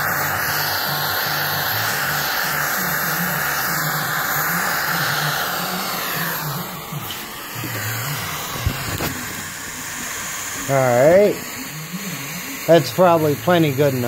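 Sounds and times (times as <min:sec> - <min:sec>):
gas torch hissing: 0:00.0 - 0:14.0.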